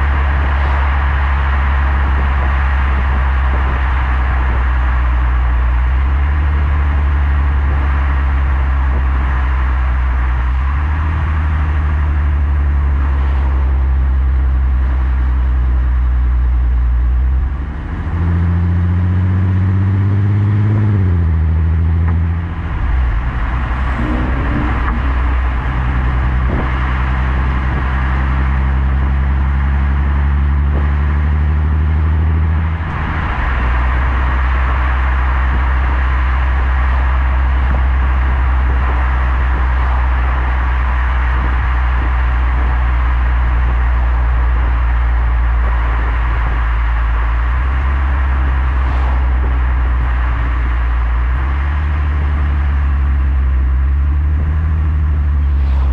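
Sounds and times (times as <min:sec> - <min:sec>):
car engine exhaust drone: 0:00.0 - 0:55.9.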